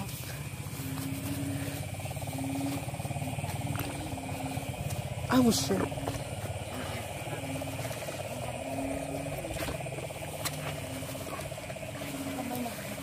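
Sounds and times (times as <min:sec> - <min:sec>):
frogs calling in chorus: 0:00.0 - 0:13.0
low frog croaks: 0:00.4 - 0:13.0.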